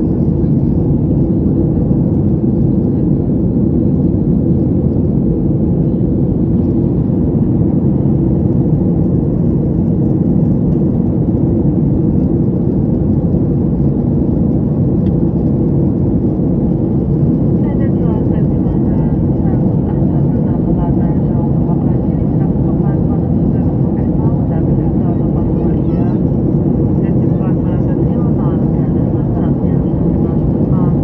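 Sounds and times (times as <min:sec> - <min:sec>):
jet engine roar in cabin: 0:00.0 - 0:31.0.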